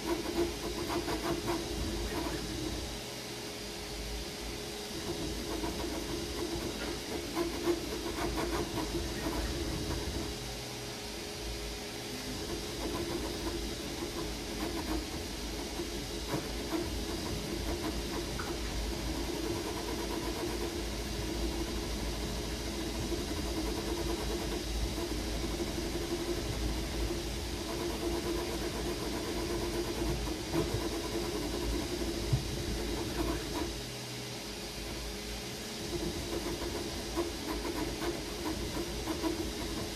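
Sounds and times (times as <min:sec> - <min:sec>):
fan hiss: 0:00.0 - 0:39.9
printer motor hum: 0:00.0 - 0:39.9.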